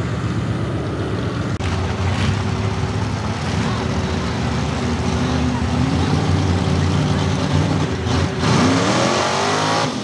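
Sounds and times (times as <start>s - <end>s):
truck engine running steadily: 0.0s - 10.0s.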